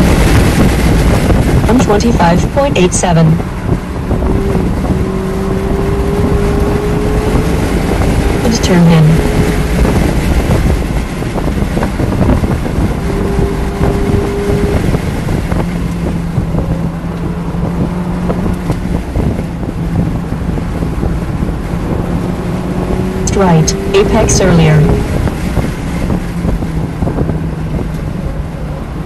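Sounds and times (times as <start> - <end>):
car engine under load: 0.0 - 29.0
wind and road noise: 0.0 - 29.0.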